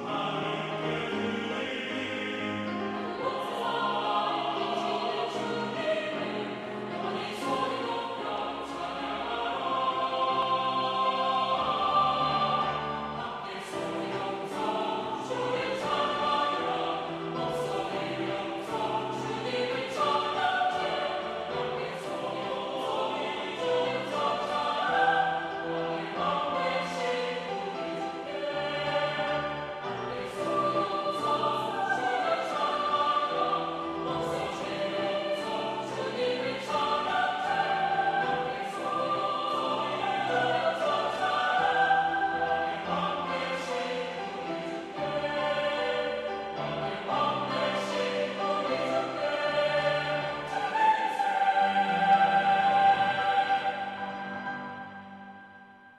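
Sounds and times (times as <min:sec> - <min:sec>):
choir singing in harmony: 0:00.0 - 0:55.9
piano accompaniment: 0:00.0 - 0:55.9.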